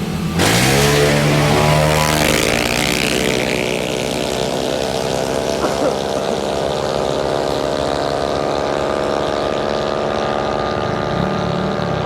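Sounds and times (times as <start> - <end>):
scooter engines at full throttle: 0.0 - 12.0.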